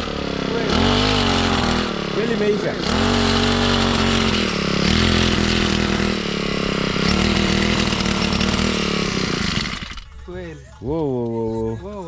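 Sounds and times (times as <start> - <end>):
small petrol engine running: 0.0 - 10.3.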